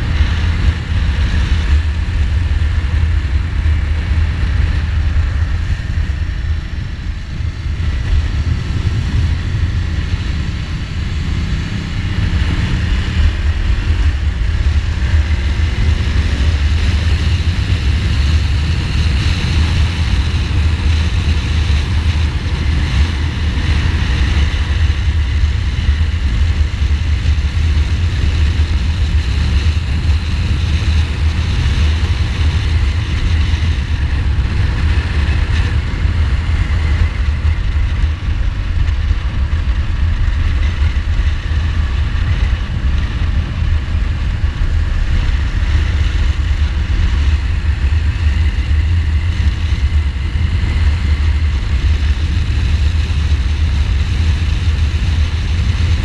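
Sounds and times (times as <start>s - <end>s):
motorcycle engine running: 0.0s - 56.0s
road noise: 0.0s - 56.0s
wind rumbling on microphone: 0.0s - 56.0s.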